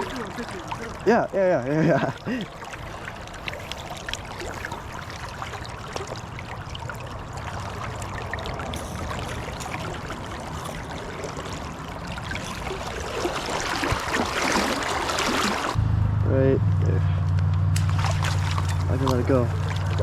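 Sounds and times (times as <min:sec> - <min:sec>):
water trickling and lapping: 0:00.0 - 0:15.8, 0:17.6 - 0:20.0.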